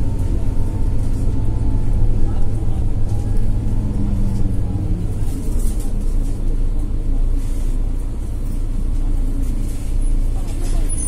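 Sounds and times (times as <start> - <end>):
bus diesel engine rumble: 0.0 - 11.0.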